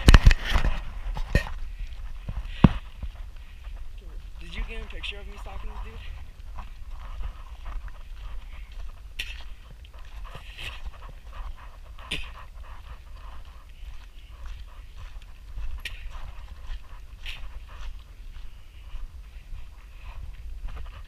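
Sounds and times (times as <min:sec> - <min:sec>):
scuffing movement noises: 0:00.0 - 0:21.0
wind rumble on microphone: 0:00.0 - 0:21.0
close breathing: 0:00.9 - 0:04.4, 0:05.1 - 0:21.0.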